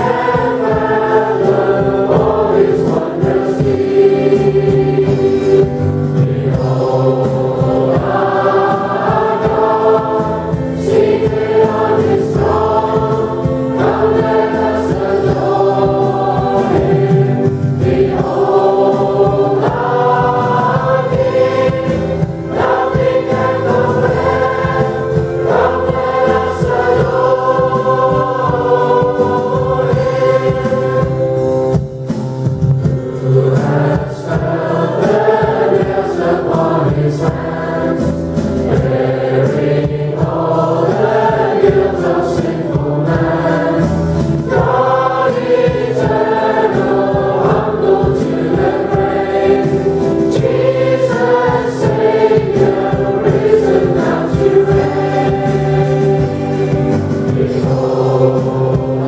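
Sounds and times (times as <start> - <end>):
keyboard: 0.0 - 59.0
voices singing together: 0.0 - 59.0.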